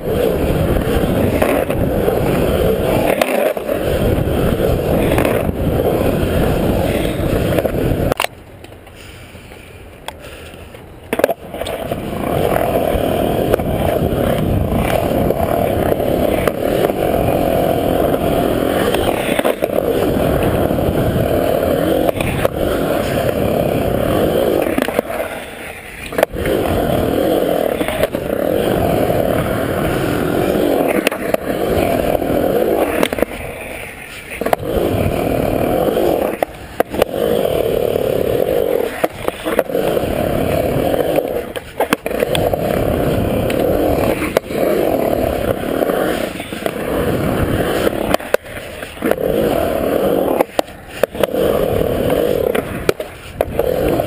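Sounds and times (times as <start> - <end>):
skateboard clacks: 0.0 - 54.0
skateboard wheels rolling on concrete: 0.0 - 54.0.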